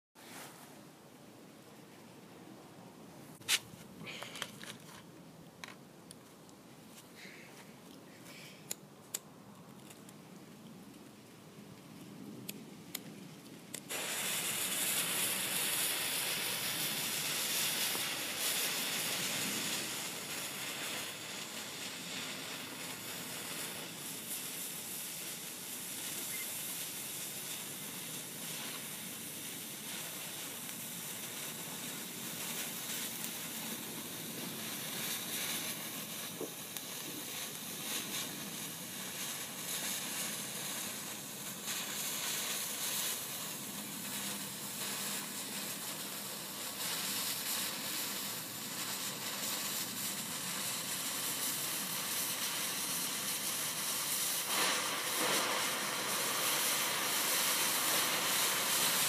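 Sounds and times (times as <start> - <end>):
fuse burning with hiss: 0.2 - 1.9, 2.6 - 59.0.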